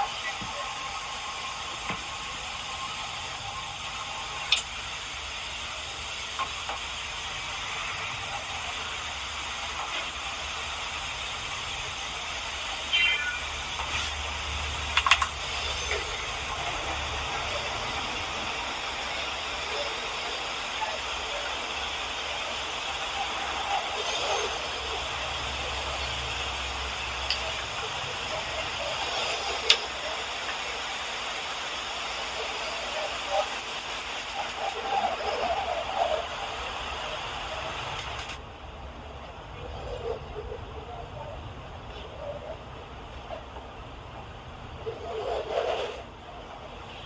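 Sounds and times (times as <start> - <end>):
recording hiss: 0.0 - 47.0.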